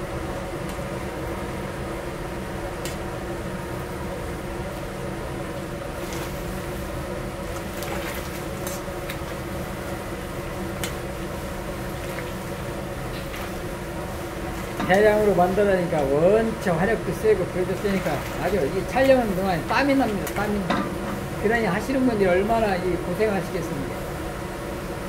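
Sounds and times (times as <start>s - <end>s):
gas burner roaring: 0.0s - 25.0s
steady hum: 0.0s - 25.0s.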